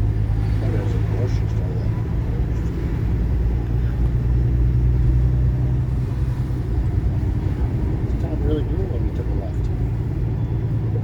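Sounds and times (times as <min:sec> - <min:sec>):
vehicle engine and road drone: 0:00.0 - 0:11.0.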